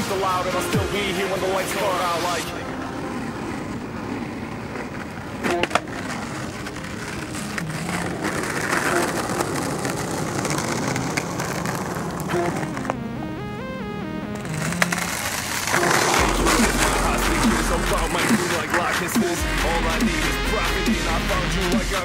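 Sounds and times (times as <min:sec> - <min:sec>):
skateboard clacks: 0:00.0 - 0:13.0, 0:14.4 - 0:22.0
skateboard wheels rolling on asphalt: 0:00.0 - 0:13.5, 0:14.3 - 0:22.0.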